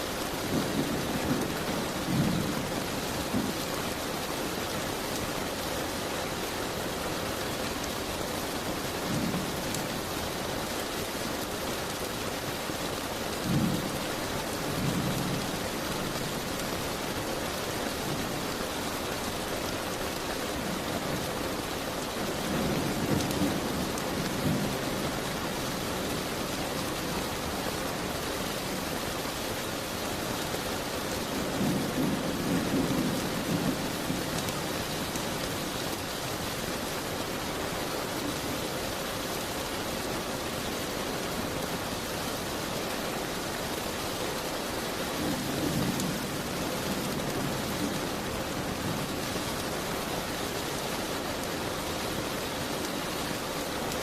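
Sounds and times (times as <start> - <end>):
rain beating against window: 0.0 - 54.0.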